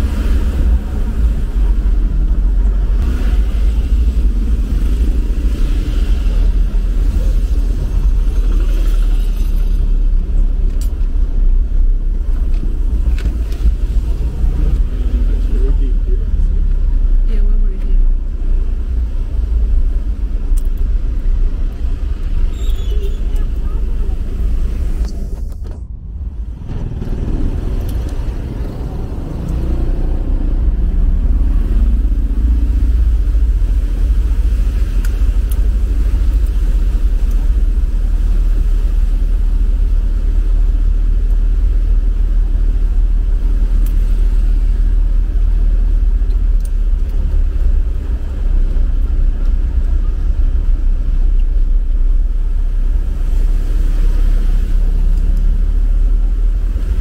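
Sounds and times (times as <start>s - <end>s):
road noise: 0.0s - 57.0s
truck engine rumble: 0.0s - 57.0s.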